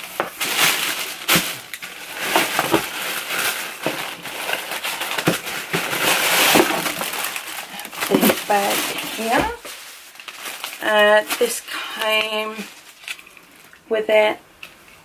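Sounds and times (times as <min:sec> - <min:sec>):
tissue paper rustling and crinkling: 0:00.0 - 0:14.3.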